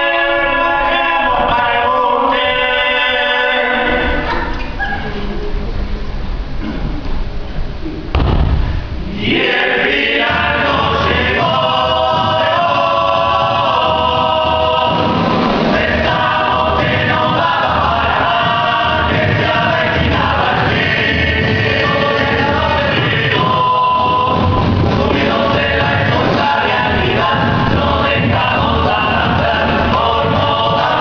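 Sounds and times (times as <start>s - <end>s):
voices singing in chorus: 0.0s - 4.8s, 9.0s - 31.0s.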